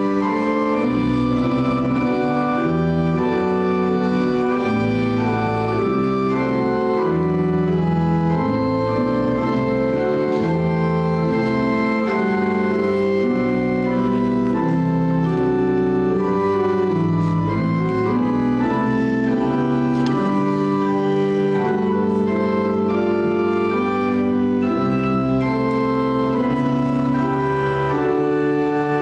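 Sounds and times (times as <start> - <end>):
church organ playing chords: 0.0 - 29.0.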